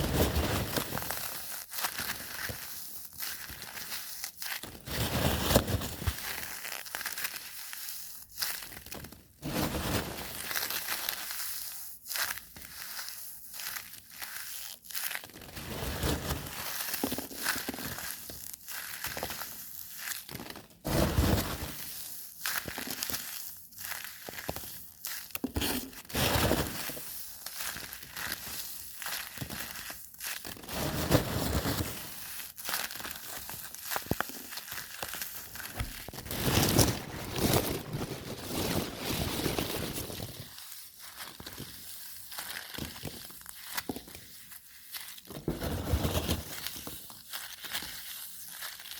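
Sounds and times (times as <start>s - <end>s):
crushing and crinkling: 0.0s - 48.9s.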